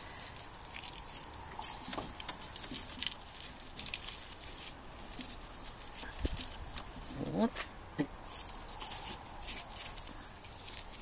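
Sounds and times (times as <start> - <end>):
dry onion husks crackling: 0.0 - 11.0.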